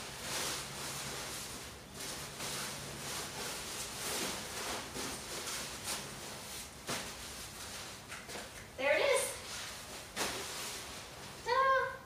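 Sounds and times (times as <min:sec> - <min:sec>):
nylon fabric rustling: 0:00.0 - 0:11.9.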